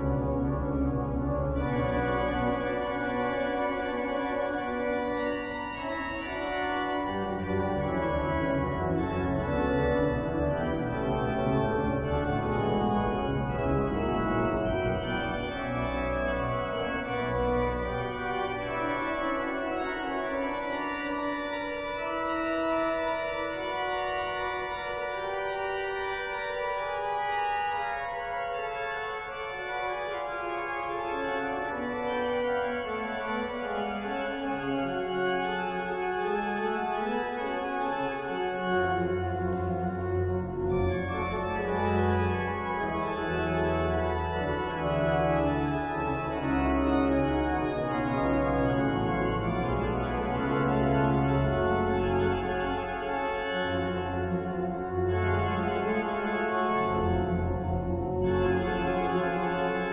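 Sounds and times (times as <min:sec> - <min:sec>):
low organ pedal notes: 0:00.0 - 0:59.9
pipe organ chords: 0:00.0 - 0:59.9.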